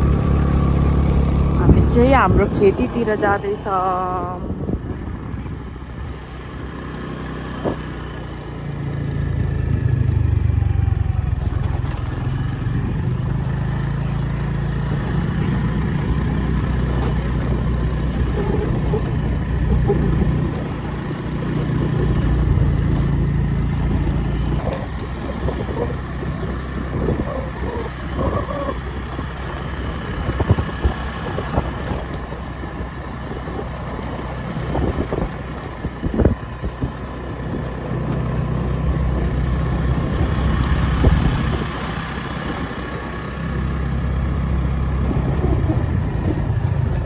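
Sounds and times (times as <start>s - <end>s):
motorbike engine running: 0.0s - 47.0s
road rumble: 0.0s - 47.0s
wind: 0.0s - 47.0s.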